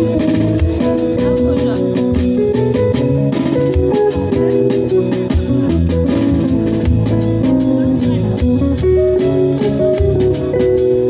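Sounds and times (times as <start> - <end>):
drum kit: 0.0 - 11.0
guitar notes: 0.0 - 11.0.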